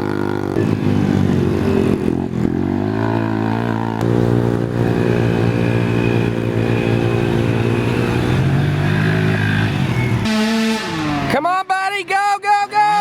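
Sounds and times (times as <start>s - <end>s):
small quad engines revving: 0.0s - 11.4s.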